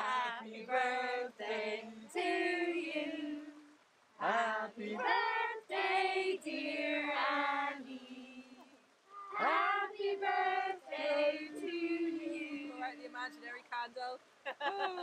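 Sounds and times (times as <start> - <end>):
women and children singing: 0.0 - 13.4.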